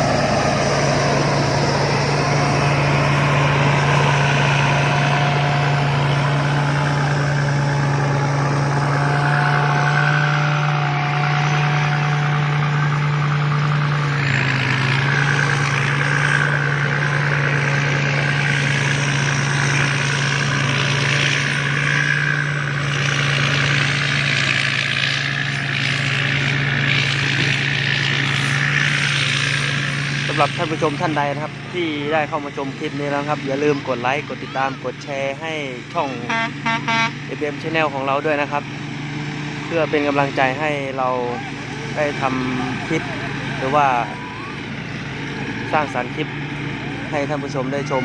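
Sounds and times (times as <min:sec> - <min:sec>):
combine harvester engine running: 0:00.0 - 0:48.0.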